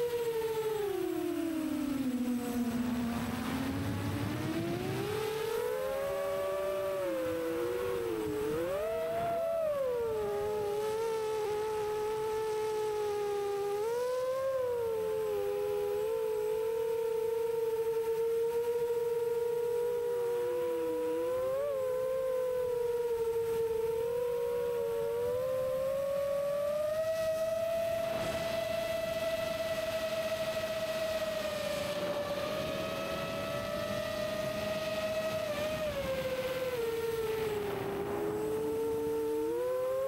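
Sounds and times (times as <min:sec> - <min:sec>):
drone propellers whining: 0:00.0 - 0:40.0.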